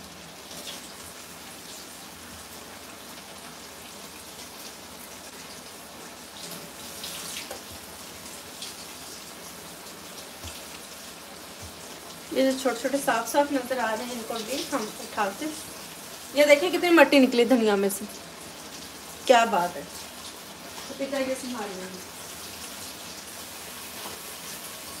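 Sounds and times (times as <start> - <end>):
pot sizzling on stove: 0.0 - 25.0.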